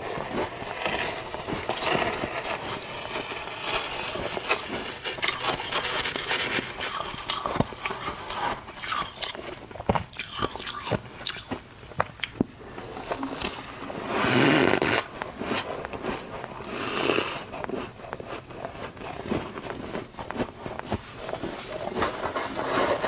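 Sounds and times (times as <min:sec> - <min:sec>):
person chewing crunchy frost: 0:00.0 - 0:23.0.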